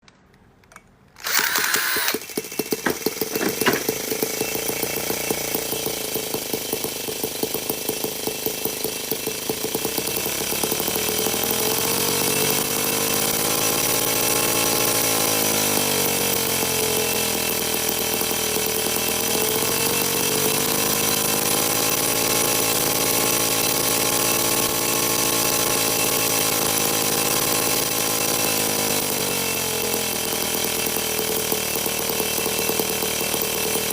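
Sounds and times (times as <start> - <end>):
model engine buzzing: 1.2 - 33.9.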